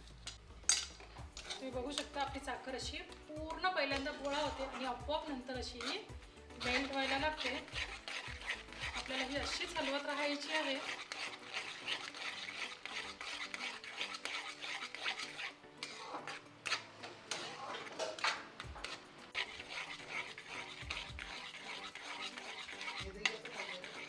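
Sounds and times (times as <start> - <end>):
metal spatula scraping metal pan: 0.0 - 24.0.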